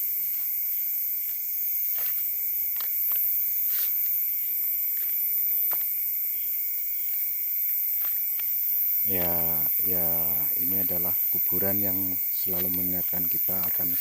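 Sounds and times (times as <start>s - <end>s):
crickets and insects chirping: 0.0s - 14.0s.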